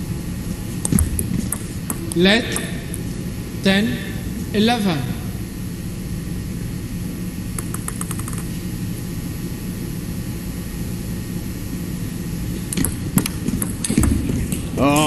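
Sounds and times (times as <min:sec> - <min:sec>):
low hum of hall: 0:00.0 - 0:15.0.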